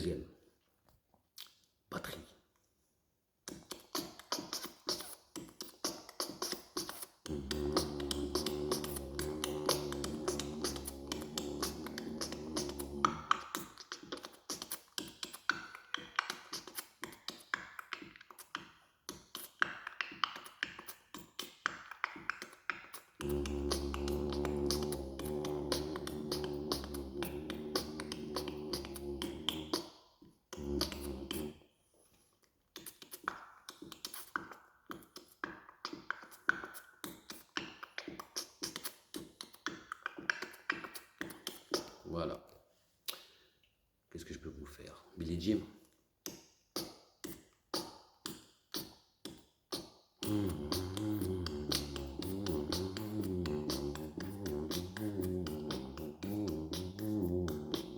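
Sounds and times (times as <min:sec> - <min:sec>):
mouth percussion clicks and taps: 0:00.8 - 0:02.7, 0:03.4 - 0:31.6, 0:32.4 - 0:43.8, 0:45.8 - 0:57.9
beatboxing: 0:03.5 - 0:31.7, 0:32.7 - 0:42.4, 0:44.2 - 0:57.9.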